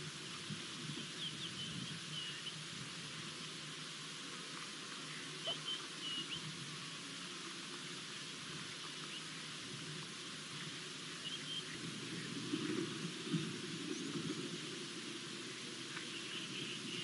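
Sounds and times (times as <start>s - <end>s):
outdoor bush ambience hiss: 0.0s - 17.0s.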